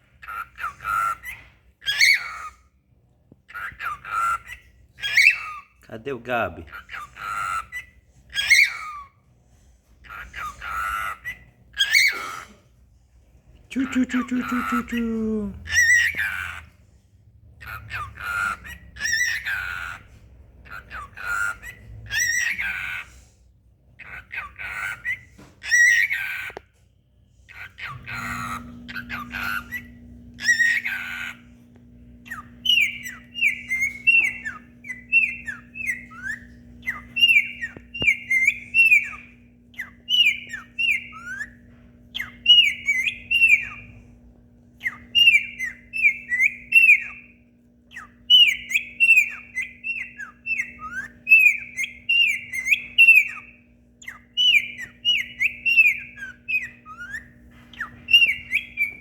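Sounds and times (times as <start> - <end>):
harsh bird calls: 0.0 - 2.8, 3.5 - 12.8, 13.5 - 59.0
cockatiel whistling: 0.2 - 2.7, 3.5 - 5.8, 6.6 - 9.2, 10.0 - 12.5, 15.7 - 16.6, 17.6 - 23.1, 24.0 - 26.6, 27.5 - 31.5, 32.2 - 44.0, 44.8 - 59.0.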